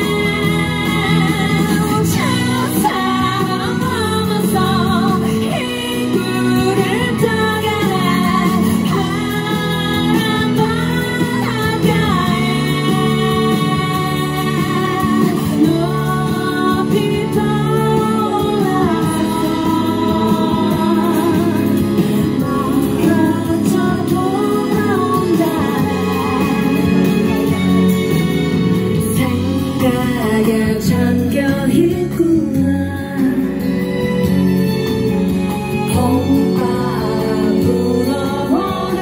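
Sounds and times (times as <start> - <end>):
instrumental accompaniment: 0.0 - 39.0
woman singing through loudspeakers: 0.0 - 39.0.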